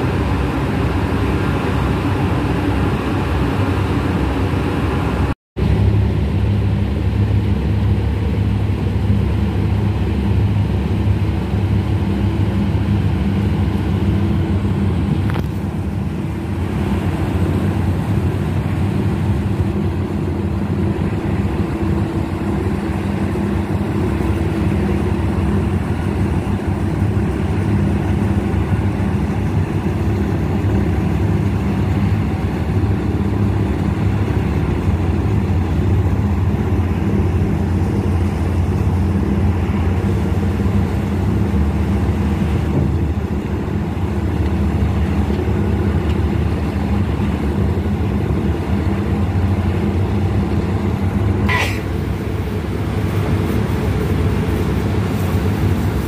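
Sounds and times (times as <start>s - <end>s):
boat engine droning: 0.0s - 56.0s
water noise: 0.0s - 56.0s.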